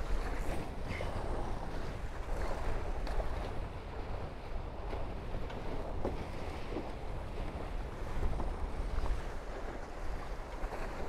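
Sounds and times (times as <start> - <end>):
water rushing along hulls: 0.0 - 11.0
wind rumbling on microphone: 0.0 - 11.0.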